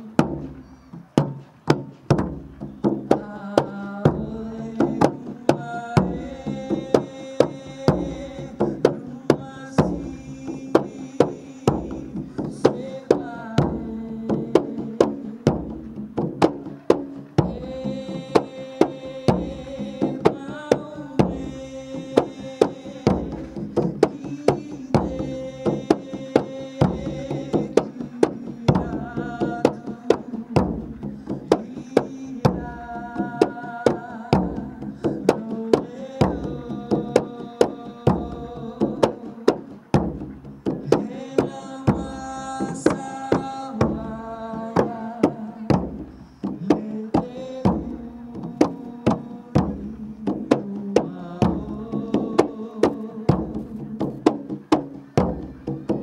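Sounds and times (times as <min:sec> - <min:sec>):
man singing into microphone: 0:00.0 - 0:00.7, 0:03.0 - 0:39.9, 0:40.7 - 0:56.0
hand drum beating: 0:00.0 - 0:56.0.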